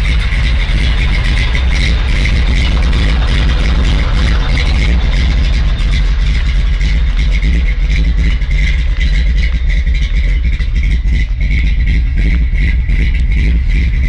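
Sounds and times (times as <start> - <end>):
engine rumbling with uneven firing: 0.0 - 14.0.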